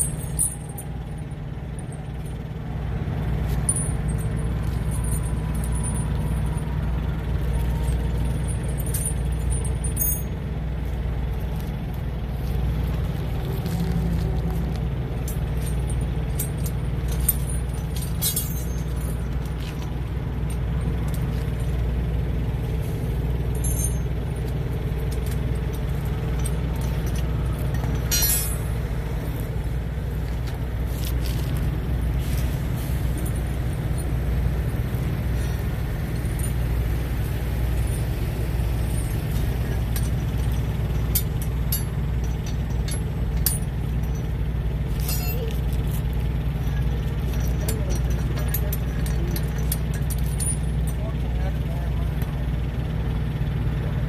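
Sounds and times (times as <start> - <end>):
metal chain links clinking: 0.0 - 2.4, 3.2 - 11.0, 13.6 - 22.2, 23.0 - 29.6, 30.2 - 34.7, 35.3 - 37.0, 37.6 - 52.0
diesel truck engine idling: 0.0 - 54.0.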